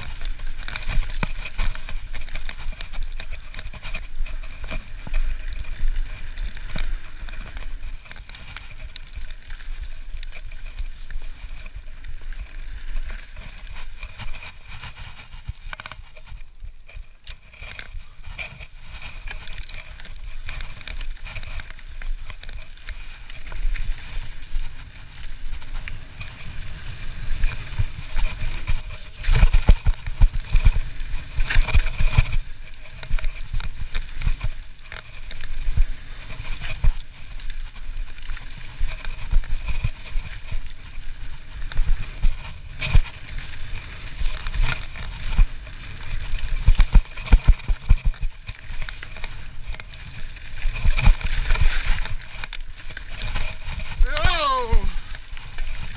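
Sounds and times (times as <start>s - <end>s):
bike knocks and rattles: 0.0s - 12.5s, 13.3s - 50.0s
knobby tyres rumbling on dirt: 0.0s - 55.9s
wind on microphone: 0.0s - 55.9s.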